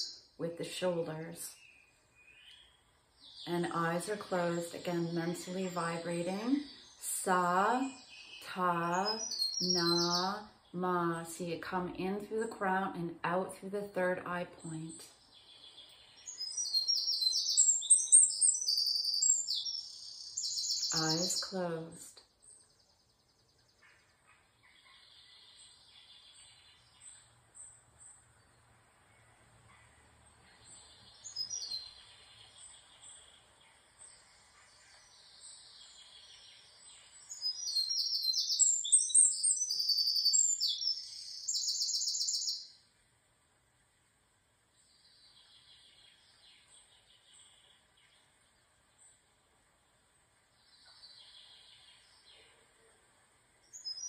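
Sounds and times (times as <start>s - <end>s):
songbird chirping and trilling: 0.0s - 43.0s, 44.7s - 54.0s.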